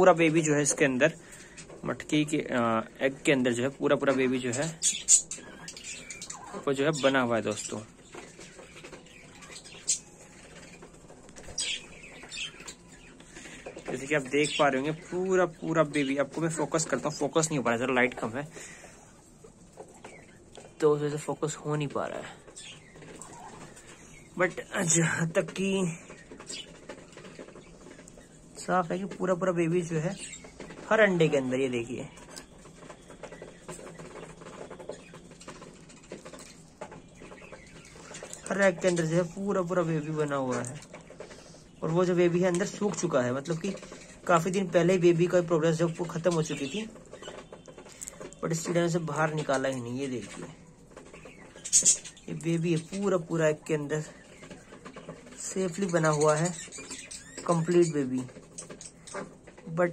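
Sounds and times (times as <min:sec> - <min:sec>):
budgerigars chirping: 0:00.0 - 0:59.9.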